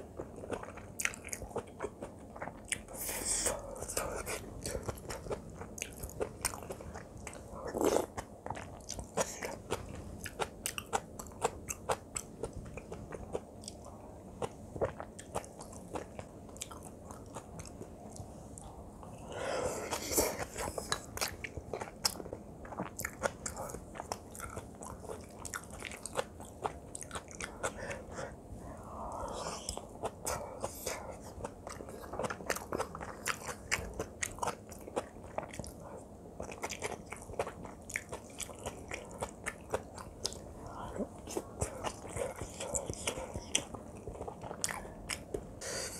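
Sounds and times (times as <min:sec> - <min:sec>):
close-up chewing and crunching: 0:00.0 - 0:28.4, 0:29.0 - 0:45.9.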